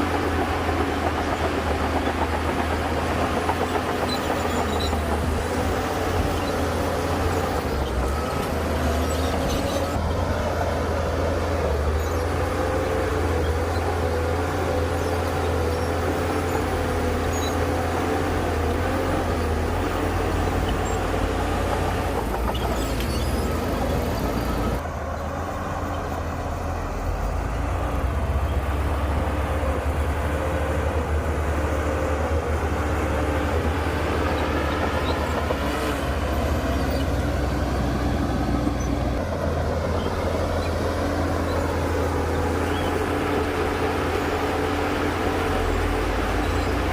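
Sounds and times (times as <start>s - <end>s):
heavy diesel engine rumbling: 0.0s - 46.9s.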